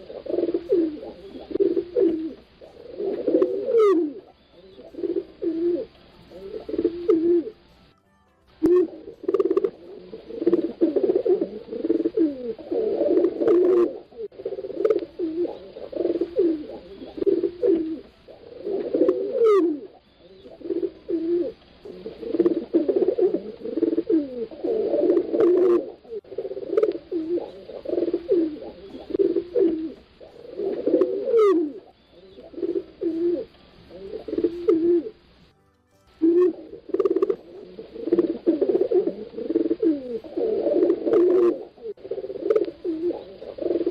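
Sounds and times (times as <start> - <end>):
pigeons cooing: 0.0 - 7.6, 8.6 - 35.4, 36.2 - 43.9.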